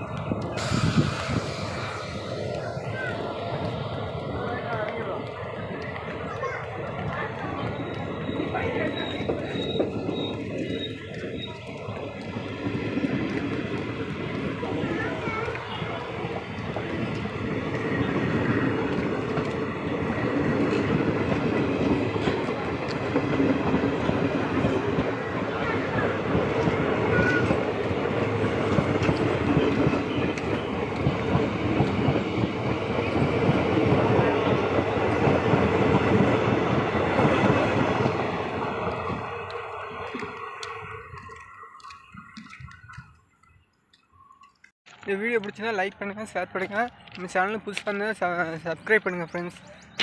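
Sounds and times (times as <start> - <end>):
train running on track: 0.0 - 50.0.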